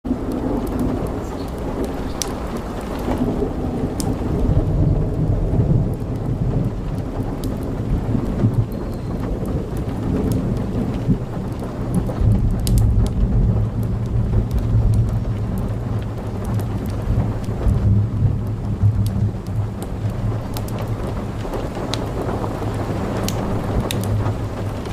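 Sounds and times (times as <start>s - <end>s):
strong wind through trees: 0.0s - 24.9s
wind rumbling on microphone: 0.0s - 24.9s.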